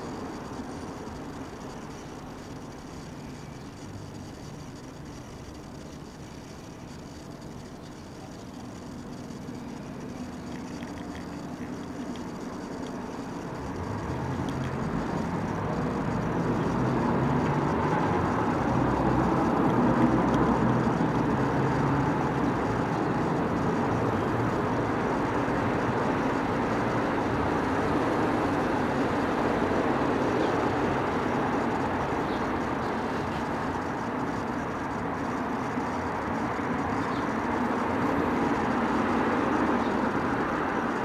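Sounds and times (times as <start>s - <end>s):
steady background rumble and hiss: 0.0s - 41.0s.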